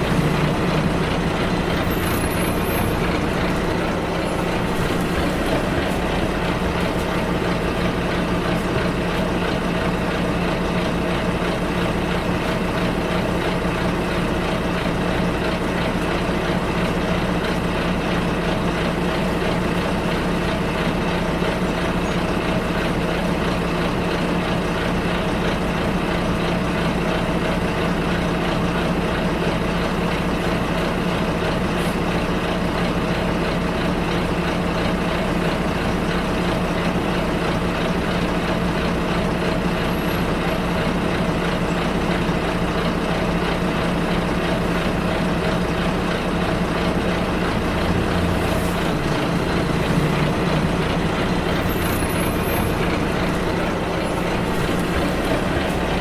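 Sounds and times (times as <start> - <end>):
bus engine hum: 0.0 - 56.0
road rumble: 0.0 - 56.0.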